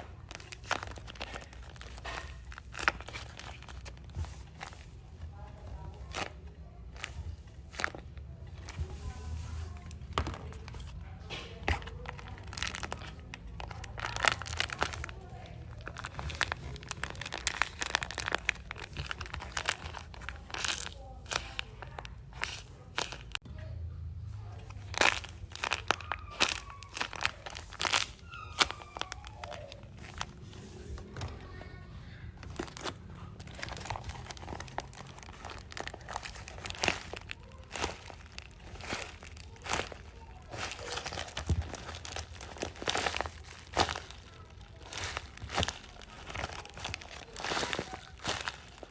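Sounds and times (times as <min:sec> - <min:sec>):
paper and tape crinkling: 0:00.0 - 0:23.4, 0:24.3 - 0:48.9.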